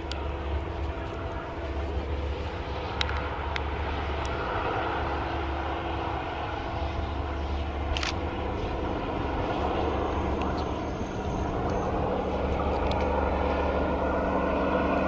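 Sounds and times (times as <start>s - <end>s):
distant diesel train drone: 0.0s - 15.0s.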